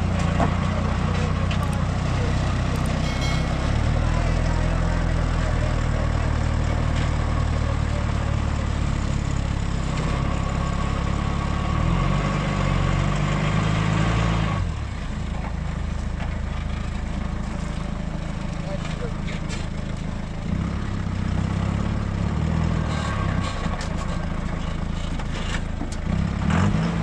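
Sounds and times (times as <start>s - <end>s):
pickup truck engine running: 0.0s - 11.9s, 14.7s - 26.4s.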